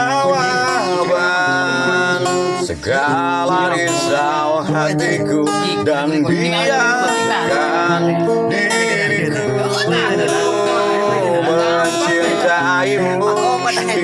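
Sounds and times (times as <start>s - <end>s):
acoustic guitar strumming: 0.0s - 14.0s
person singing: 0.0s - 14.0s.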